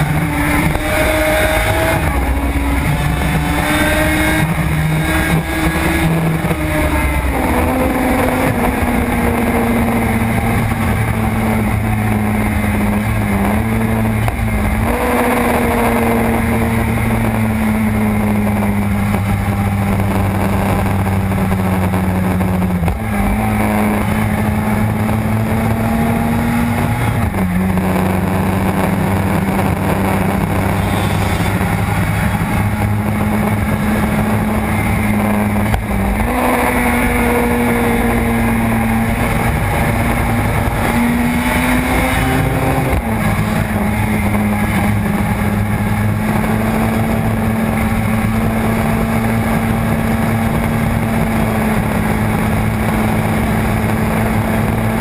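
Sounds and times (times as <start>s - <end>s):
racing motorcycle engine at high revs: 0.0s - 55.0s
wind rush: 0.0s - 55.0s.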